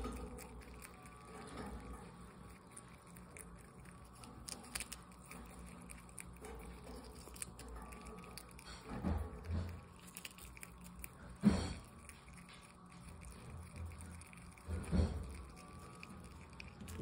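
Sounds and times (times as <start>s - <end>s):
animal chewing leaf crunching: 0.0s - 17.0s.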